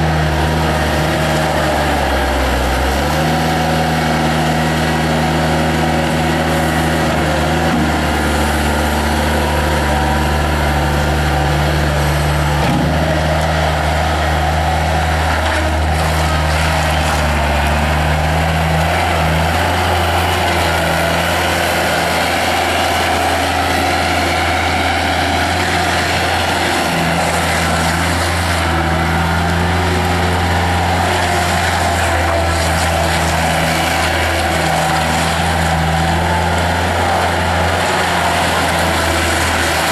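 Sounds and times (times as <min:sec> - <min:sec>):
loader diesel engine running: 0:00.0 - 0:39.9.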